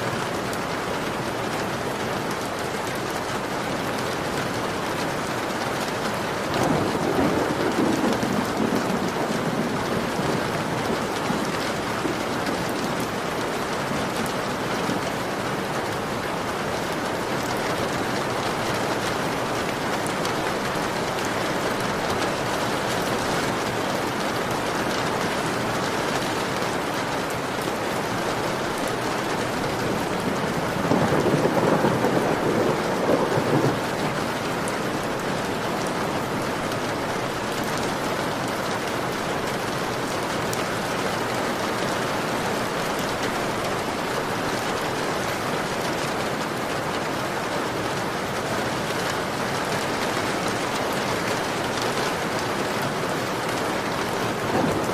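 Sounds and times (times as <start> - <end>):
heavy rain on window: 0.0 - 54.9.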